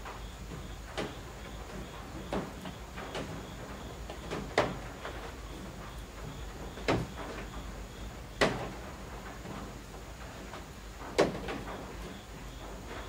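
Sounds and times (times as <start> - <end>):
rain falling on roof eaves: 0.0 - 13.0.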